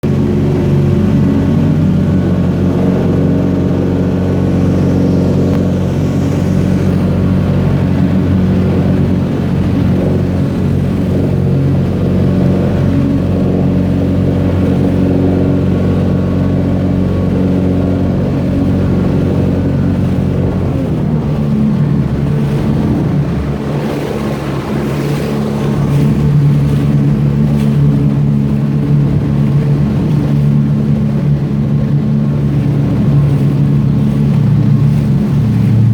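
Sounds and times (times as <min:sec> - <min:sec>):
boat engine running: 0:00.0 - 0:35.9.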